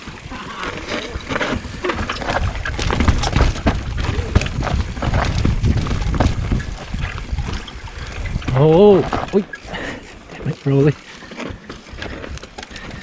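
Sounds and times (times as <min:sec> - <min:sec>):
mountain bike clattering over rocks: 0:00.0 - 0:13.0.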